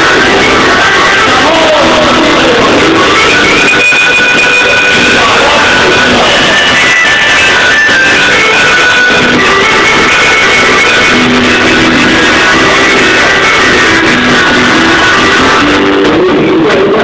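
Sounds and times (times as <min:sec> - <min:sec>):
loud live band with guitar: 0:00.0 - 0:17.0.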